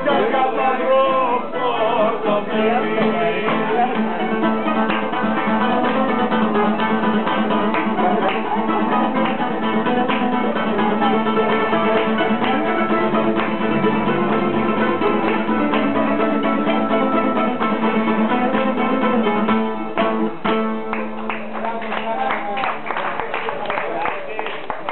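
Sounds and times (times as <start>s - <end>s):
plucked bouzoukia tune: 0.0s - 21.6s.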